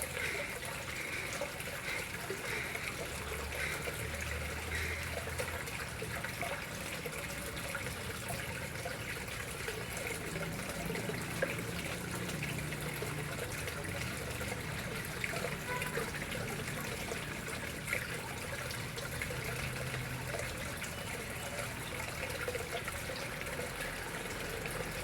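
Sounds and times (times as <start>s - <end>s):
water trickling into pond: 0.0s - 25.0s.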